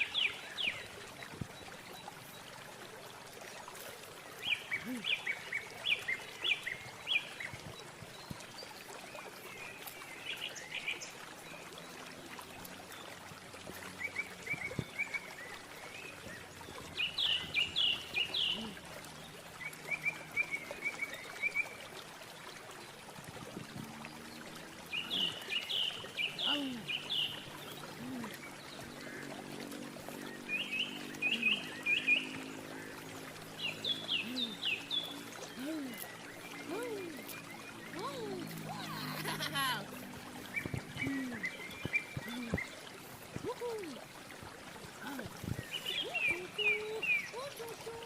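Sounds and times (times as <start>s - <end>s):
birds chirping: 3.7s - 11.3s, 13.8s - 21.7s, 23.9s - 48.0s.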